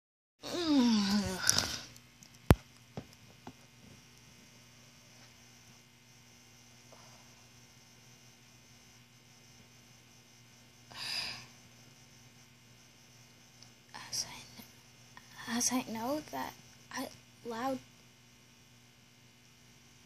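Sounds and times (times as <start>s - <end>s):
faint electrical hum: 0.4s - 20.0s.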